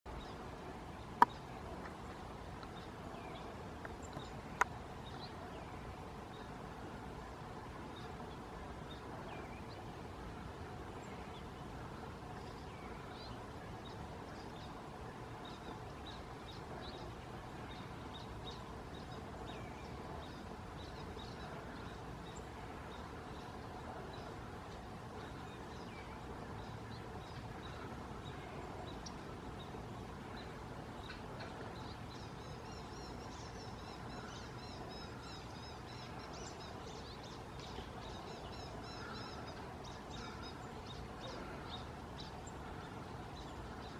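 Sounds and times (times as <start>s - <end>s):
birds chirping: 0.1s - 43.9s.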